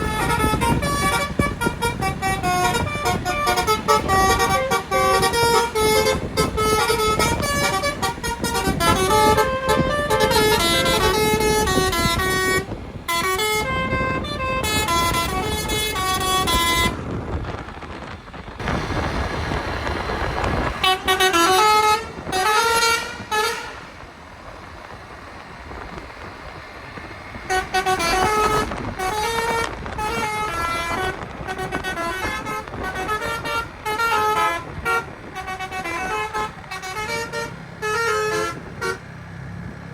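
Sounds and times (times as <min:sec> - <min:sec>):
musical bus horns playing tunes: 0:00.0 - 0:18.0, 0:18.6 - 0:24.2, 0:27.3 - 0:39.4
traffic noise: 0:00.0 - 0:39.9.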